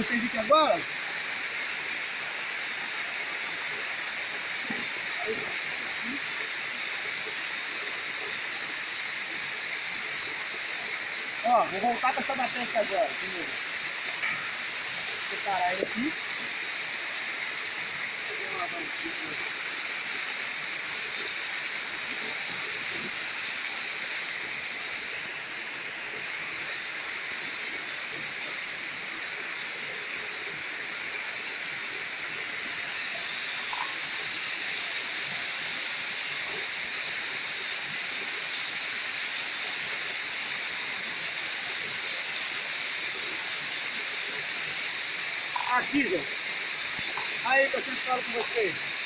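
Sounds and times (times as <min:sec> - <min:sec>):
water rushing down channel: 0:00.0 - 0:49.0.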